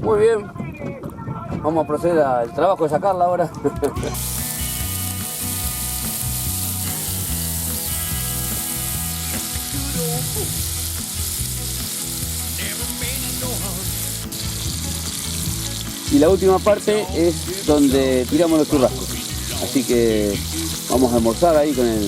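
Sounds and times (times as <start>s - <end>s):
meat sizzling: 4.0s - 22.0s.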